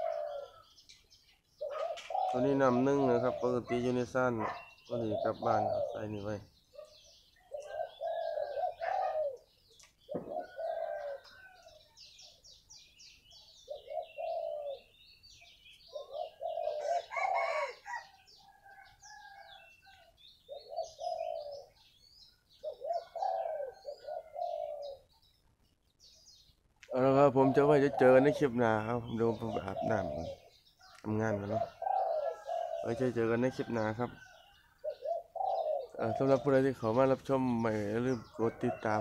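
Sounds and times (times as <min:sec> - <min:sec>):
dove cooing: 0:00.0 - 0:25.4, 0:26.3 - 0:39.0
small birds chirping: 0:00.0 - 0:39.0.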